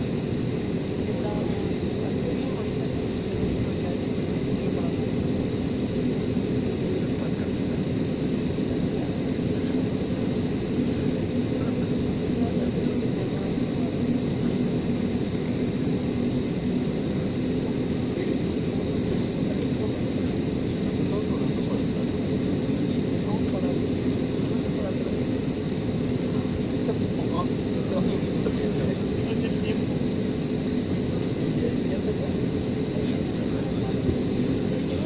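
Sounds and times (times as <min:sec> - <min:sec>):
airplane cabin hum: 0:00.0 - 0:35.0
faint high engine whine: 0:00.0 - 0:35.0.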